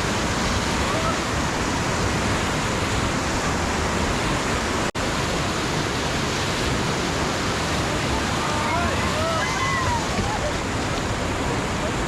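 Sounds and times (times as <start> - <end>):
whitewater rushing in rapids: 0.0 - 12.0.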